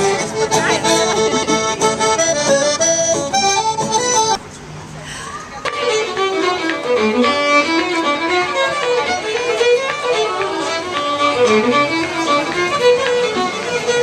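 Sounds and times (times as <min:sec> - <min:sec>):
solo violin fiddle tune: 0:00.0 - 0:04.4, 0:05.6 - 0:14.0.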